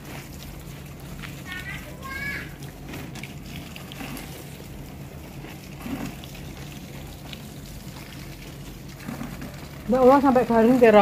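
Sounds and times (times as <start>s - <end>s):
hose water spraying on plants: 0.0s - 11.0s.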